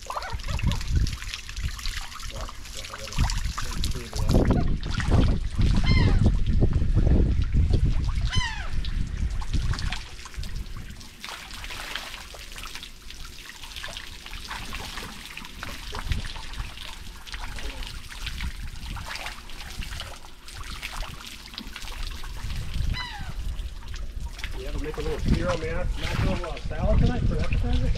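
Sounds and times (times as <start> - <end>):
seawater trickling and lapping: 0.0 - 27.9
small water splashes: 0.0 - 27.9.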